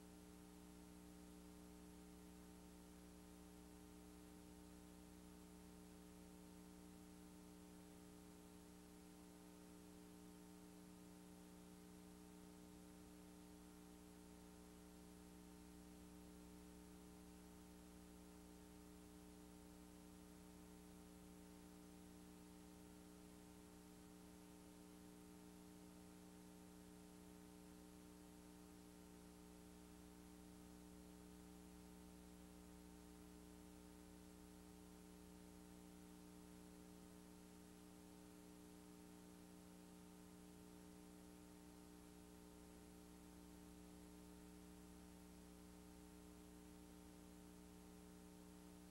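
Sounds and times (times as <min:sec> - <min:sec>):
faint electrical hum: 0:00.0 - 0:48.9.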